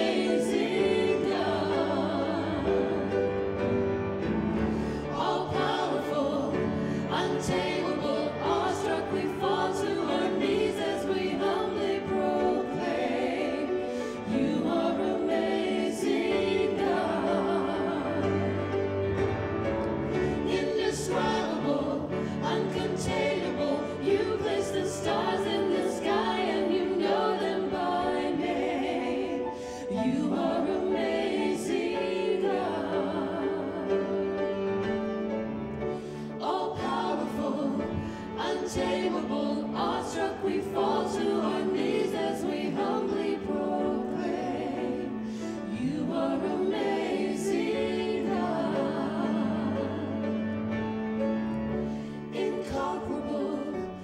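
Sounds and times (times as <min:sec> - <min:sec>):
vocal trio singing: 0:00.0 - 0:34.9, 0:35.9 - 0:50.6, 0:51.8 - 0:54.0
grand piano accompaniment: 0:00.0 - 0:54.0.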